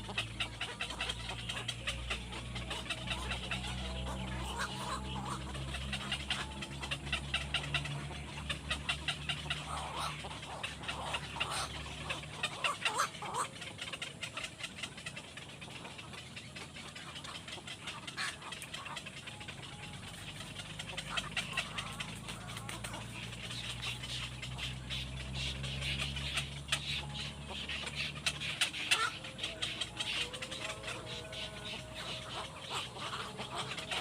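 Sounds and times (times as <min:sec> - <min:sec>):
domestic birds calling: 0:00.0 - 0:34.0
steady low hum: 0:00.0 - 0:34.0.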